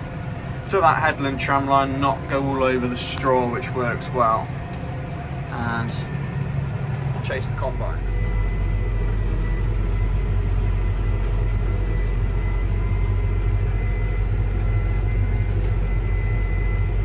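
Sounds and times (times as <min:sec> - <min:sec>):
steady high whine: 0:00.0 - 0:17.0
tractor engine drone: 0:00.0 - 0:17.0.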